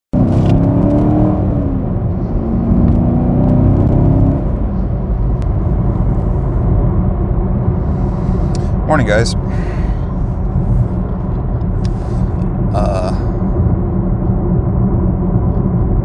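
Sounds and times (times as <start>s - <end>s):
engine and road rumble: 0.1s - 16.0s
engine drone: 0.2s - 16.0s.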